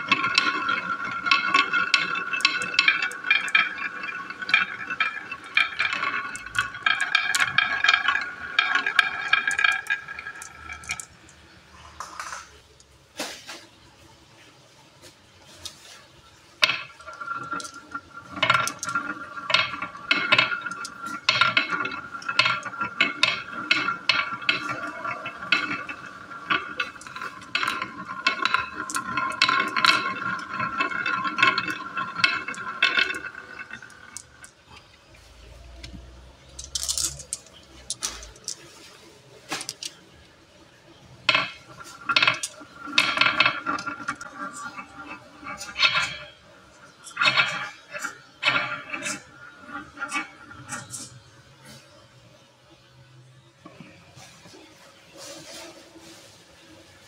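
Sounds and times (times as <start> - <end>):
marbles clicking: 0.0 - 12.9, 16.6 - 40.1, 41.0 - 51.3
marbles rolling in wooden track: 0.0 - 13.0, 15.4 - 57.0.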